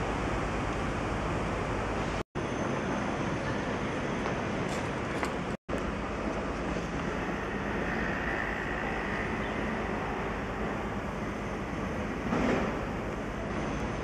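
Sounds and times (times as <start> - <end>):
passing street traffic: 0.0 - 14.0.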